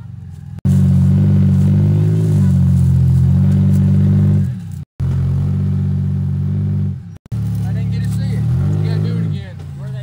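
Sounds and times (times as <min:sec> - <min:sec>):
buggy engine running hard: 0:00.0 - 0:10.0.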